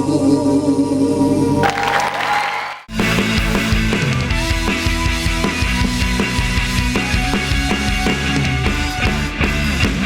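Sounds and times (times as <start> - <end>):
drum kit beats: 1.6 - 10.0.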